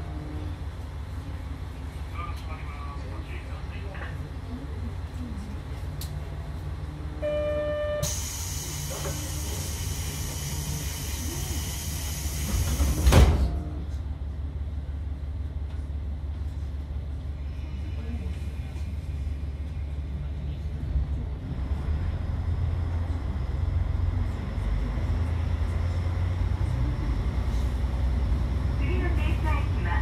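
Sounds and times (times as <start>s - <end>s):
diesel engine low rumble: 0.0s - 30.0s.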